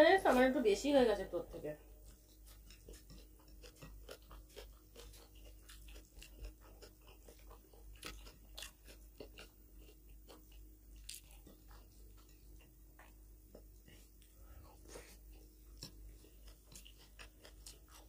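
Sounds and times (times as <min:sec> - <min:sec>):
fingers mixing food on plates: 0:00.0 - 0:18.0
chewing: 0:01.8 - 0:18.0.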